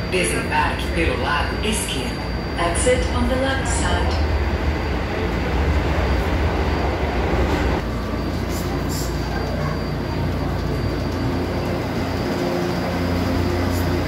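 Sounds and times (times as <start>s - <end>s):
metro train running rumble: 0.0s - 14.0s.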